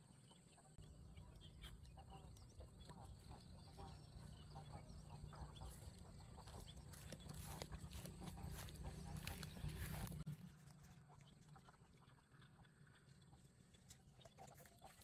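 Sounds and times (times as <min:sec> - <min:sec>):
low outdoor rumble: 0:00.2 - 0:13.8
soft ticks and rustles: 0:01.1 - 0:15.0.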